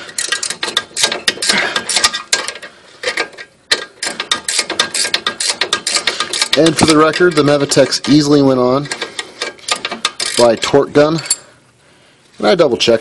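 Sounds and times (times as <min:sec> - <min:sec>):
ratcheting wrench clicking: 0:00.0 - 0:11.4.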